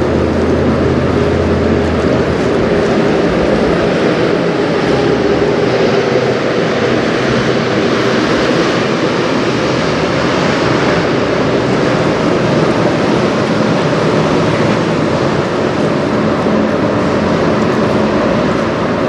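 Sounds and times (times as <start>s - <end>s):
ship engines low drone: 0.0s - 19.0s.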